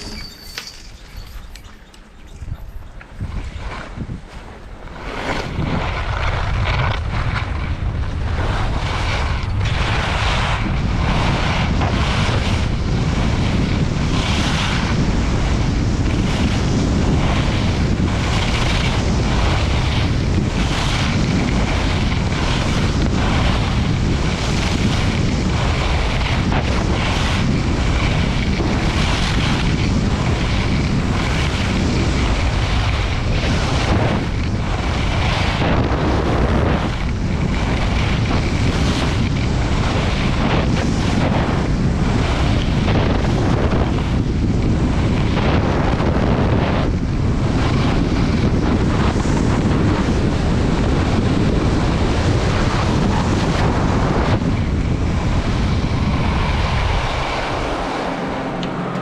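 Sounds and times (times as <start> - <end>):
skis scraping on snow: 0.0 - 59.0
wind buffeting microphone: 0.0 - 59.0.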